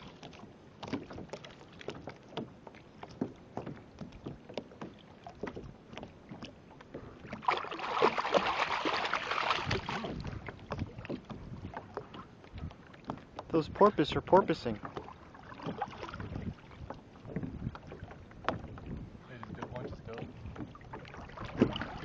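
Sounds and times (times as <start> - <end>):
water slapping against kayak hull: 0.0 - 22.0
water splashing: 0.0 - 22.0.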